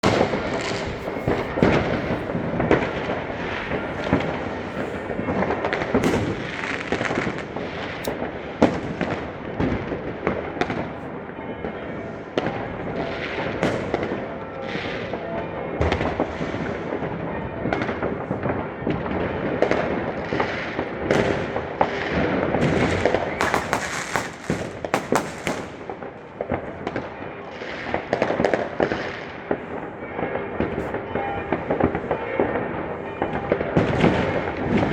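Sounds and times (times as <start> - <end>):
fireworks and firecrackers banging: 0.0 - 34.9.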